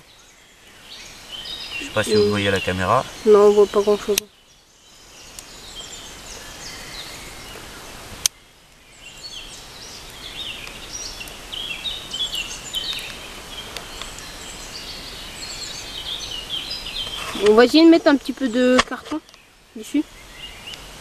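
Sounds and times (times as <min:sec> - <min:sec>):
wild birds chirping: 0:00.0 - 0:21.0.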